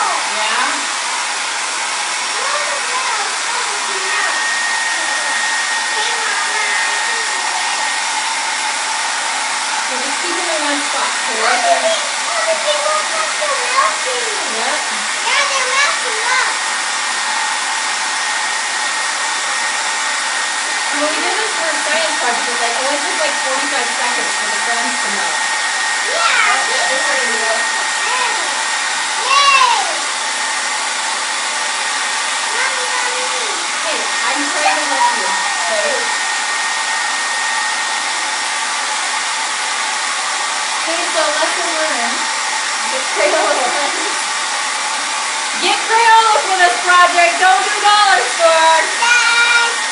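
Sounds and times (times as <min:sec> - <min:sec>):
hair dryer blowing: 0:00.0 - 0:49.9.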